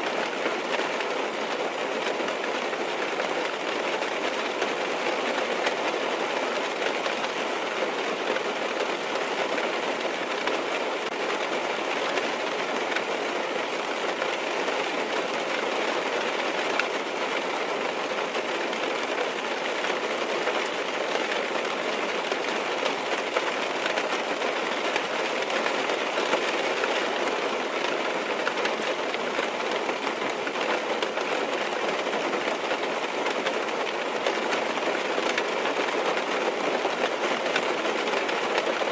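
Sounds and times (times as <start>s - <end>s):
rain on car roof and glass: 0.0s - 38.9s.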